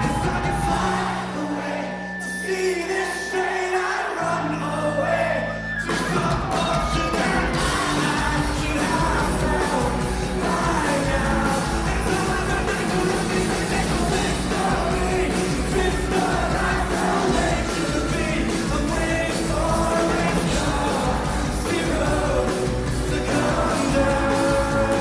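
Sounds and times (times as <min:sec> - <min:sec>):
rock band playing: 0:00.0 - 0:03.0, 0:05.6 - 0:25.0
man singing: 0:00.0 - 0:25.0.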